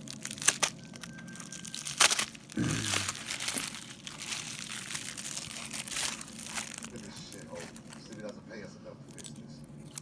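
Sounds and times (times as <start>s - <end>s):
packaging torn and crinkled: 0.0s - 8.4s.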